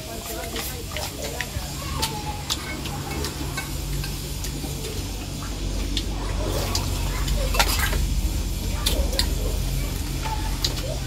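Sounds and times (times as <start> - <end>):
spoons clicking against bowls: 0.0 - 5.1, 5.8 - 8.1, 8.8 - 11.0.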